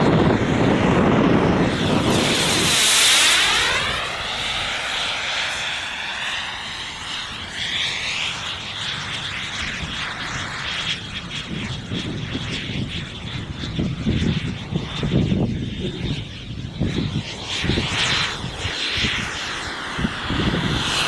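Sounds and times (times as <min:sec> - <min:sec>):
jet turbine whining: 0:00.0 - 0:21.0
wind buffeting microphone: 0:00.0 - 0:21.0.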